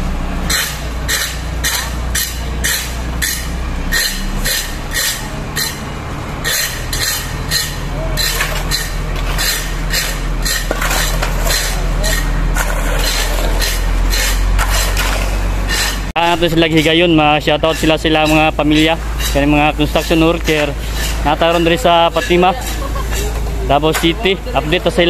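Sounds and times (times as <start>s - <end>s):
diesel engine humming: 0.0s - 25.0s
shovels scraping wet concrete: 0.5s - 24.8s.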